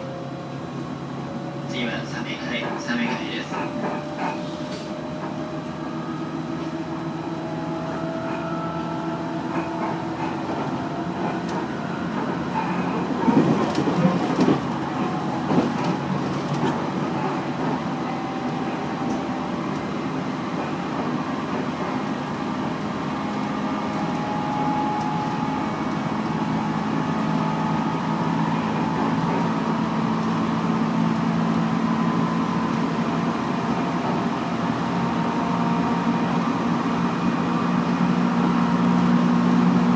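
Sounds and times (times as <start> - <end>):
rumble of train wheels: 0.0 - 39.9.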